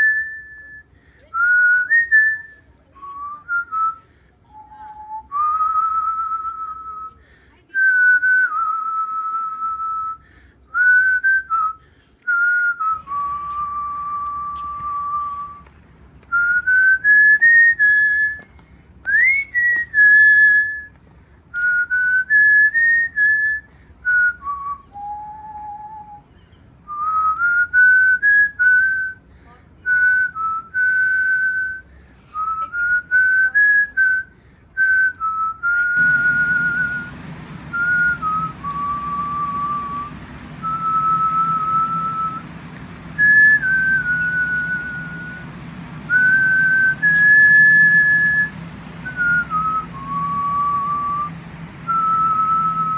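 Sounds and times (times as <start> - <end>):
person whistling a tune: 0.0 - 42.5, 43.2 - 45.5, 46.1 - 52.9
steady low hum: 0.0 - 52.9.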